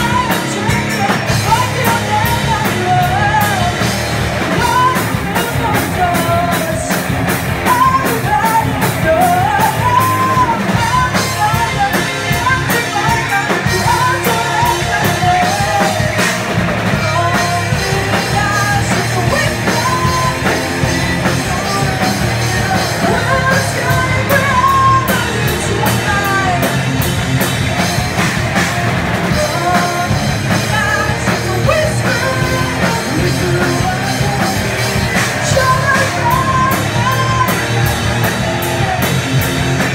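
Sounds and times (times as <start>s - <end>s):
woman singing: 0.0s - 26.9s, 29.3s - 39.1s
drum kit: 0.0s - 39.9s
electric guitars: 0.0s - 39.9s.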